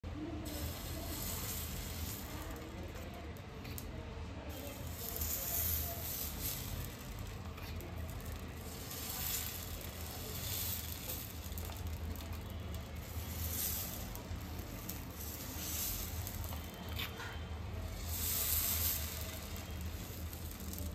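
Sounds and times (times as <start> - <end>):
batter sizzling on a griddle: 0.1 - 20.9.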